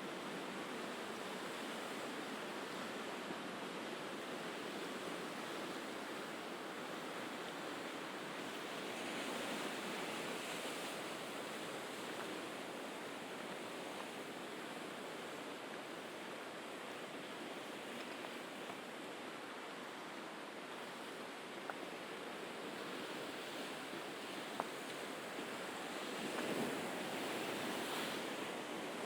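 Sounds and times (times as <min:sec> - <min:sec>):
sea waves washing on shore: 0:00.0 - 0:29.0.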